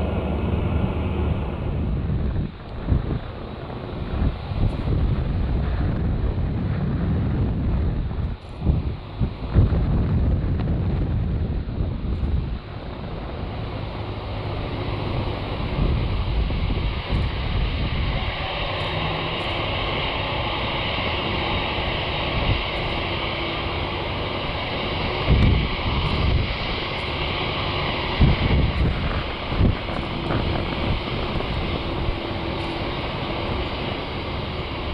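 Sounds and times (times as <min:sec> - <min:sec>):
jet engines running: 0:00.0 - 0:34.9
wind buffeting microphone: 0:00.0 - 0:34.9.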